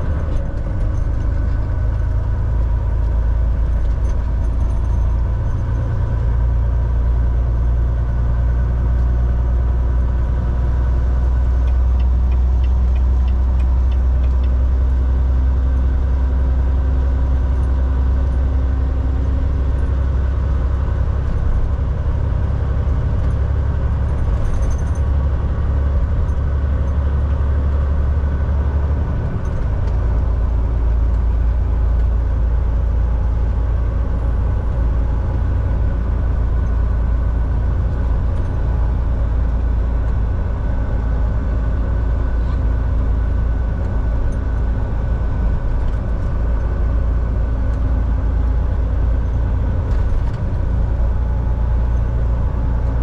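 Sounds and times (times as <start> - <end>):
road noise: 0.0 - 53.0
truck engine drone: 0.0 - 53.0.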